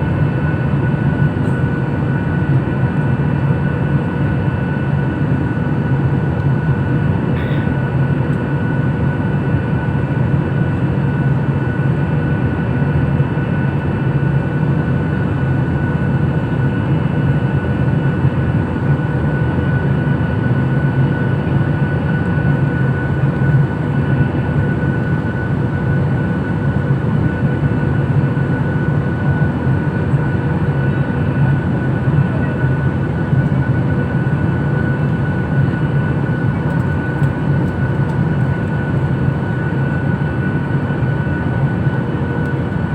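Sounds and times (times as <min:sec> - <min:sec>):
airliner engines droning in cabin: 0:00.0 - 0:42.9.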